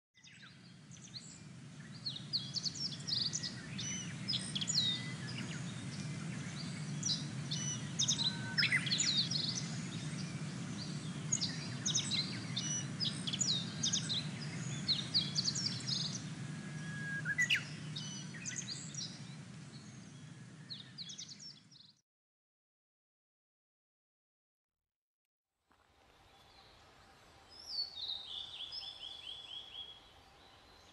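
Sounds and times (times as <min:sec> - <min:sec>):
bird singing whistles and trills: 0:00.2 - 0:21.8, 0:27.5 - 0:30.9.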